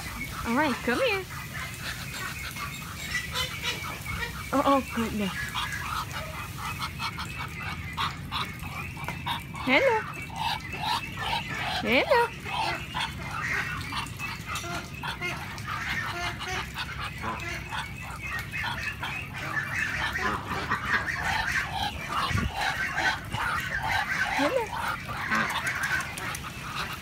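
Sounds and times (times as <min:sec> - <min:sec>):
duck calling: 0:00.2 - 0:27.0.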